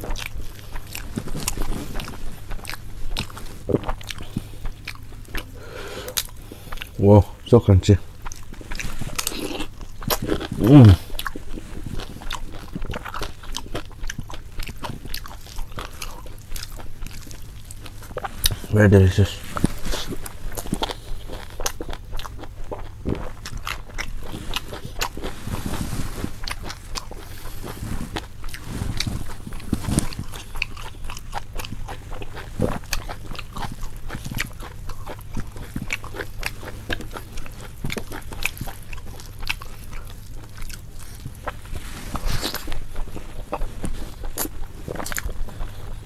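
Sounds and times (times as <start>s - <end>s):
crunchy food being chewed: 0.0s - 46.0s.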